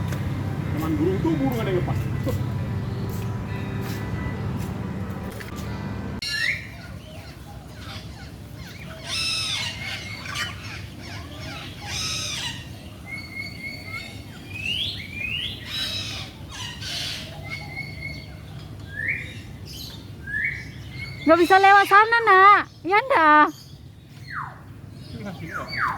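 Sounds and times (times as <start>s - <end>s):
birds whistling: 0.0s - 4.8s, 5.5s - 25.9s
birds calling: 0.0s - 25.9s.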